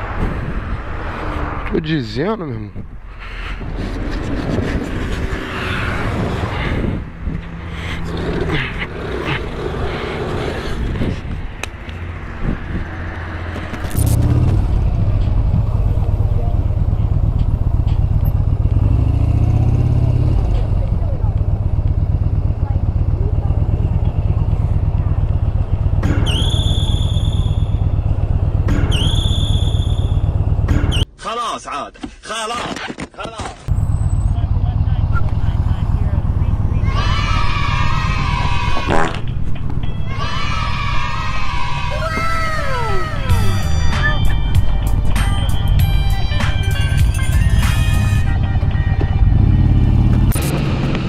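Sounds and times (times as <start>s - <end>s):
road and wind noise: 0.0s - 51.0s
vehicle engine running: 3.6s - 31.0s, 33.7s - 40.0s, 42.8s - 51.0s.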